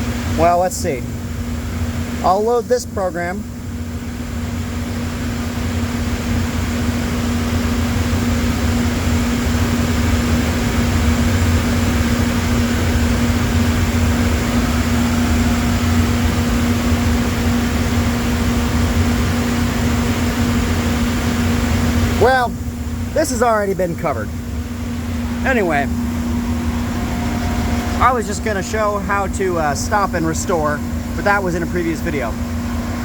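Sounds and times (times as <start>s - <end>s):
machine hum and whir: 0.0s - 33.0s.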